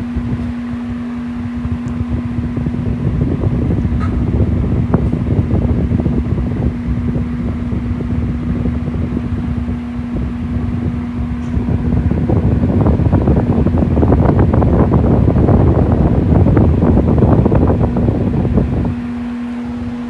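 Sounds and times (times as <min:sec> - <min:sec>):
electric fan motor humming: 0:00.0 - 0:20.0.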